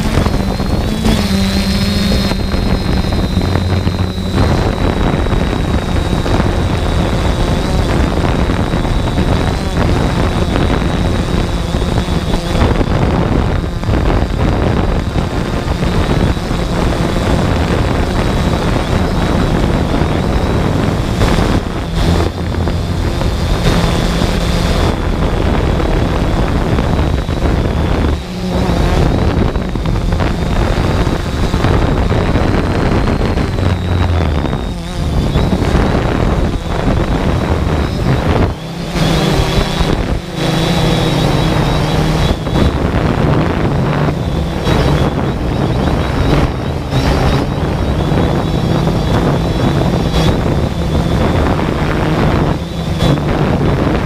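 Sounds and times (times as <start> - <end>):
drone propellers whining: 0.0 - 54.0
wind rushing over microphone: 0.0 - 54.0.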